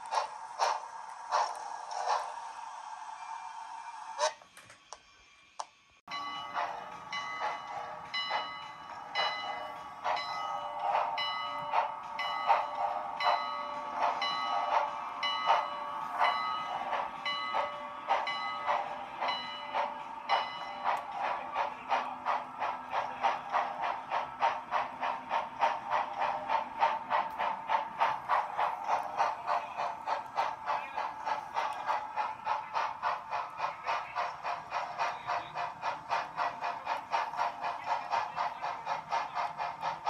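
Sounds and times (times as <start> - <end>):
model steam locomotive chuffing: 0.0 - 4.4, 6.1 - 40.0.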